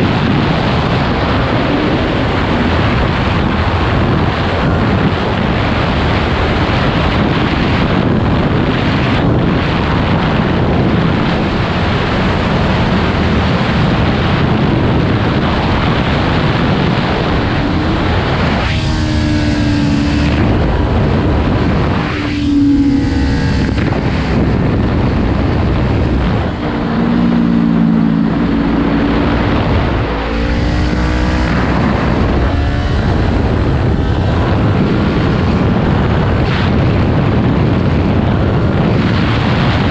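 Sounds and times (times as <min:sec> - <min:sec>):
motorcycle engine revving: 0:00.0 - 0:39.9
wind rushing on microphone: 0:00.0 - 0:39.9.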